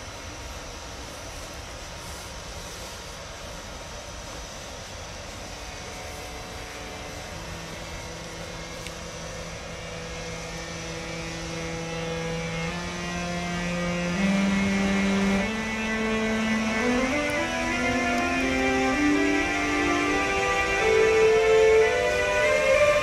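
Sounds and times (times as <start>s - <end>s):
electric locomotive rising tone: 0.0s - 23.0s.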